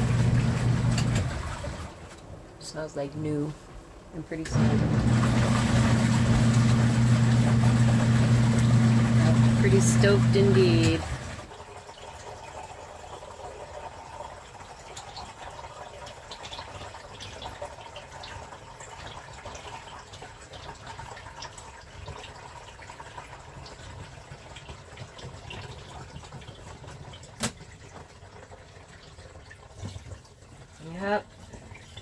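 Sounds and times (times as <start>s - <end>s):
water drips and splashes: 0.0s - 2.7s, 3.4s - 32.0s
water splashing in wash tub: 0.0s - 32.0s.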